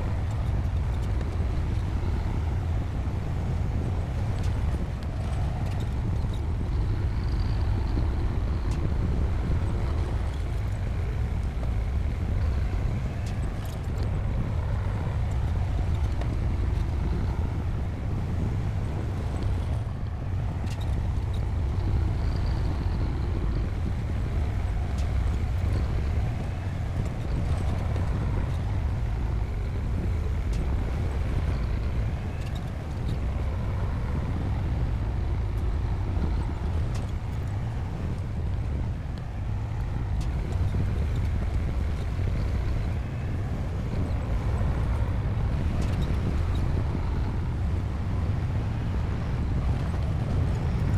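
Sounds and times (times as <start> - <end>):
diesel engine rumbling: 0.0 - 50.9.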